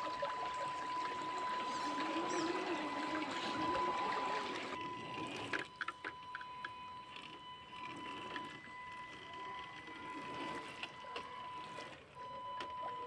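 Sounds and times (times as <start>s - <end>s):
toy truck splashing through water: 0.0s - 13.0s.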